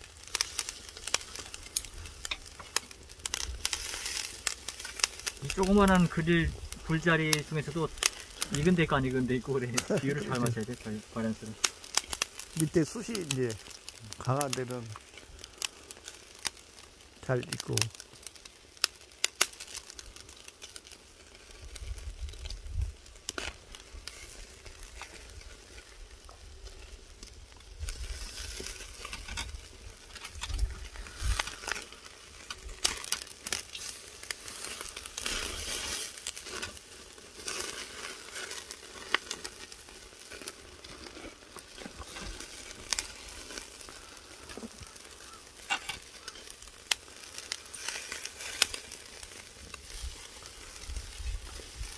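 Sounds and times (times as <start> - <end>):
meat sizzling on a grill: 0.0 - 51.9
pops and crackles: 0.0 - 51.9.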